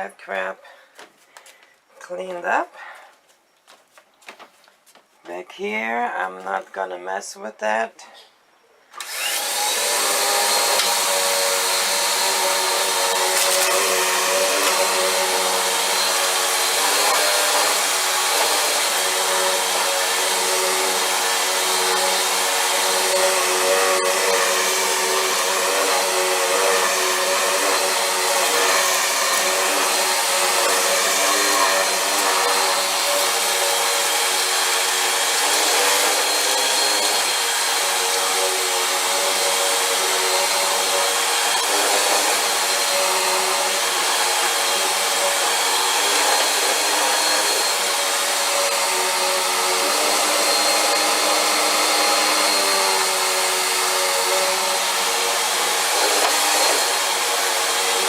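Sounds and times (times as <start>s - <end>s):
vacuum cleaner running: 9.0s - 58.0s.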